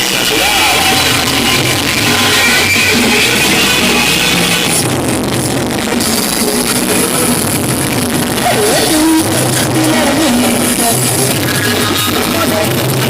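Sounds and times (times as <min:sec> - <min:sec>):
loud music over speakers: 0:00.0 - 0:13.0.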